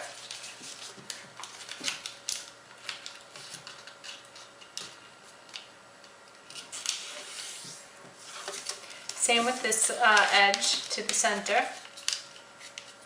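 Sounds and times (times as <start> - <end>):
paper crinkling and rustling: 0.0 - 5.7, 6.3 - 13.0.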